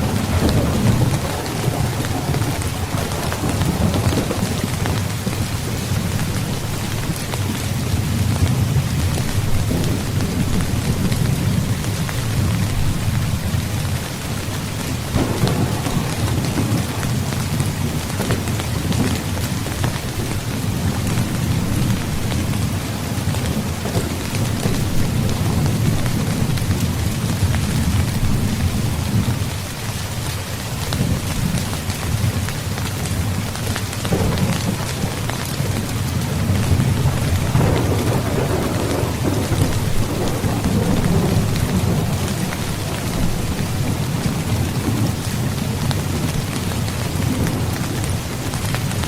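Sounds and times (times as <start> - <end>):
low rumble of thunder: 0.0 - 29.7, 30.8 - 49.0
heavy rain: 0.0 - 49.0.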